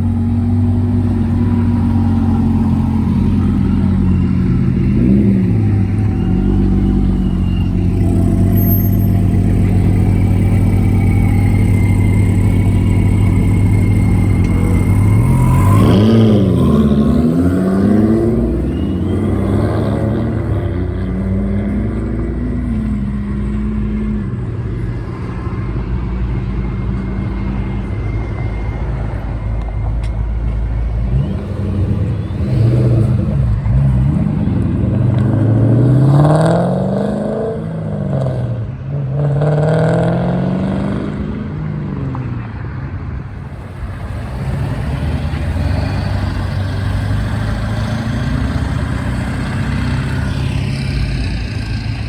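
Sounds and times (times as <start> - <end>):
car engine revving: 0.0 - 29.7, 30.6 - 38.6, 43.4 - 52.0.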